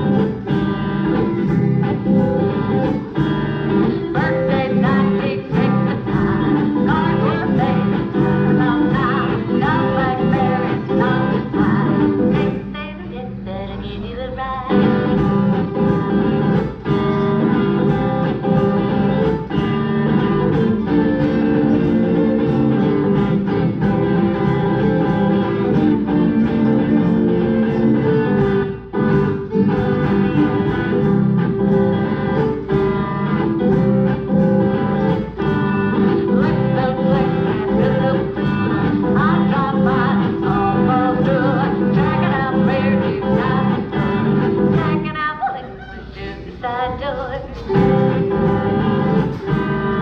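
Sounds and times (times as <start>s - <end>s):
guitar: 0.0s - 50.0s
violin: 0.0s - 50.0s.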